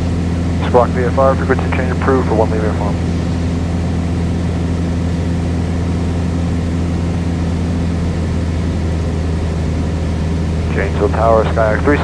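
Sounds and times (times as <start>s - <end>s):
plane engine and propeller droning: 0.0s - 12.0s.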